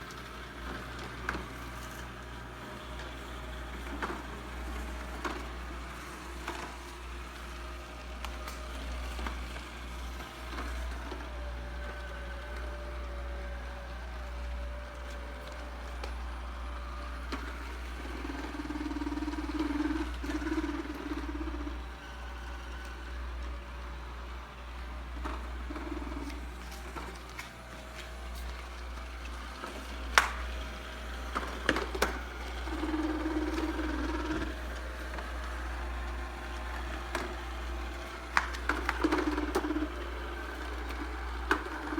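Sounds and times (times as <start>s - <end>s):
robotic vacuum cleaner humming: 0.0s - 41.9s.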